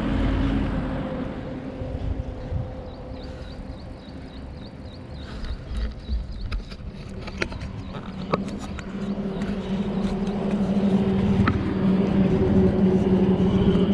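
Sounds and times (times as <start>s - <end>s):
road noise: 0.0s - 13.9s
steady low hum: 0.0s - 13.9s
wind on microphone: 0.0s - 13.9s.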